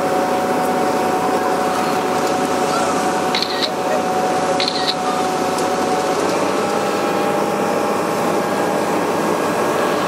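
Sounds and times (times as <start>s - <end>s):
boat engine running: 0.0s - 10.0s
wind: 0.0s - 10.0s.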